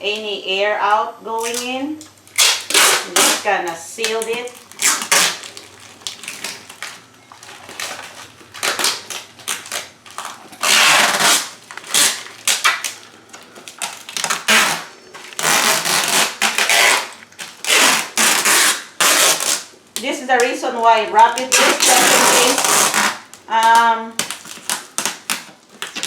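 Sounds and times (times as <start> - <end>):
packing tape ripping off roll: 1.4 - 26.0
plastic crinkling: 1.4 - 26.0.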